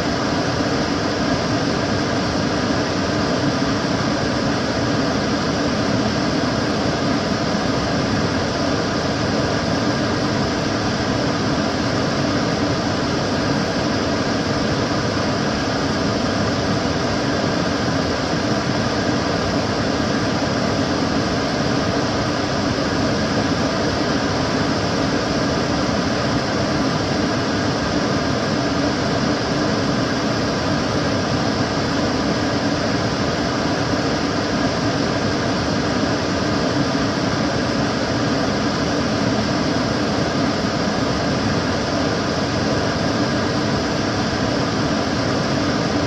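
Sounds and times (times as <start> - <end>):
extractor fan running: 0.0 - 46.0.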